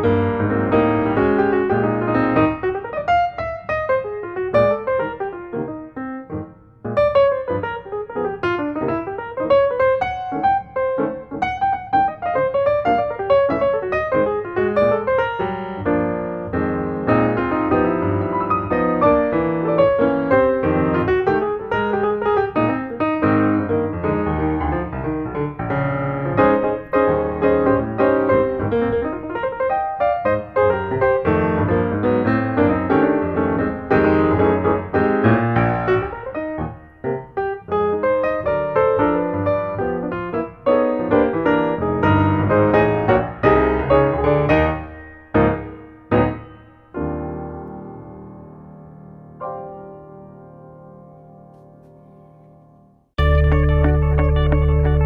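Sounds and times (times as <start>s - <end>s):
piano background music: 0.0s - 55.0s.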